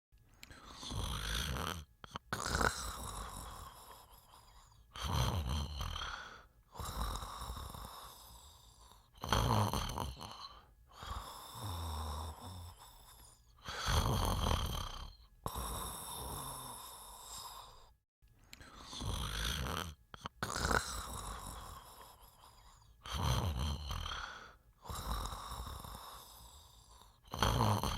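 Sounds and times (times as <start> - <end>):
person snoring: 0.4 - 27.9.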